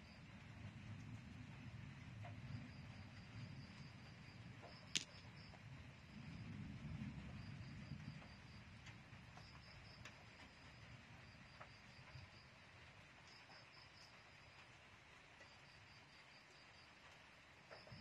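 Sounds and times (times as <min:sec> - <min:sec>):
faint cricket chirping: 0:00.0 - 0:18.0.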